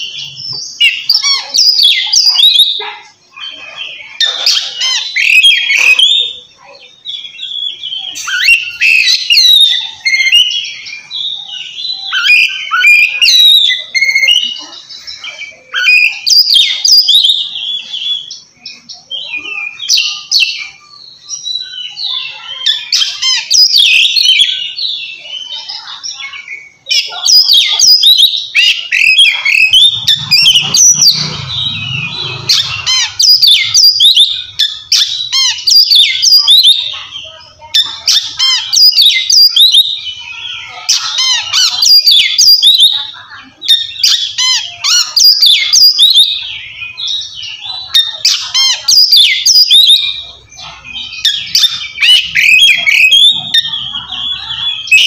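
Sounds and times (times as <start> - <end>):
magpie-robin singing whistled phrases: 0.0 - 55.0.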